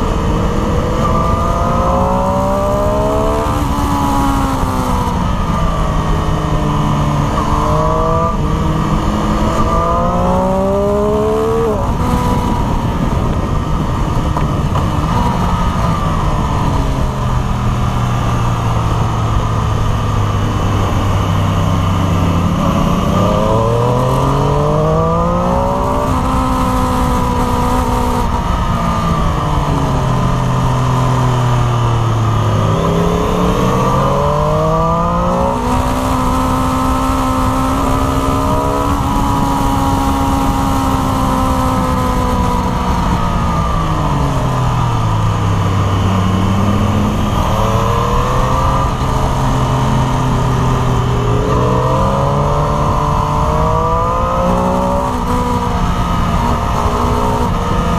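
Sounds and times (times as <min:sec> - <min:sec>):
motorcycle engine revving through gears: 0:00.0 - 0:57.9
wind rush: 0:00.0 - 0:57.9.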